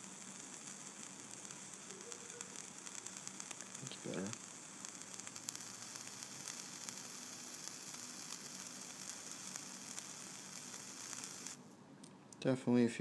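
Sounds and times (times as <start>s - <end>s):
vape coil sizzling and crackling: 0.0s - 11.6s.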